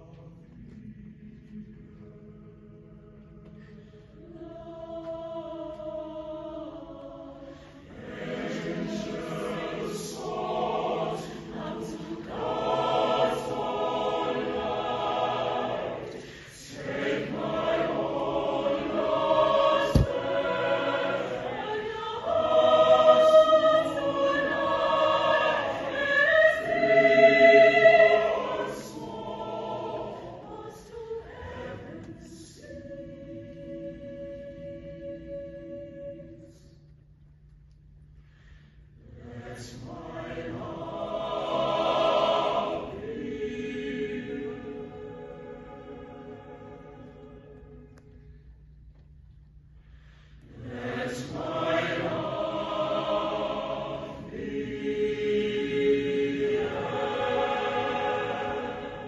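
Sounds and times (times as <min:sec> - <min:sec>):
mixed choir singing: 0:00.0 - 0:36.8, 0:39.0 - 0:48.2, 0:50.4 - 0:59.0.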